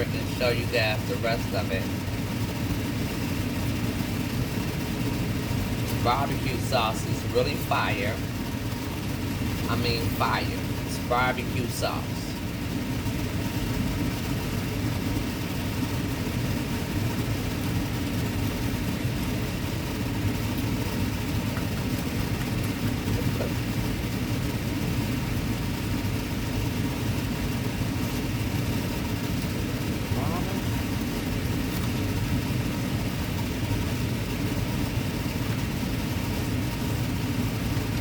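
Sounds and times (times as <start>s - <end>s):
exhaust fan humming: 0.0s - 38.0s.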